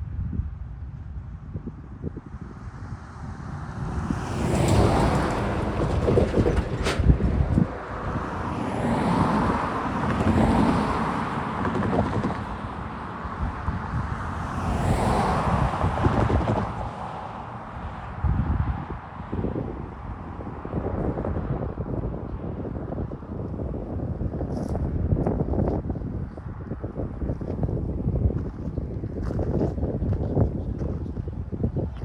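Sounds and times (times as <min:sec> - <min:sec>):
wind noise on microphone: 0:00.0 - 0:32.0
road vehicles passing: 0:00.3 - 0:32.0.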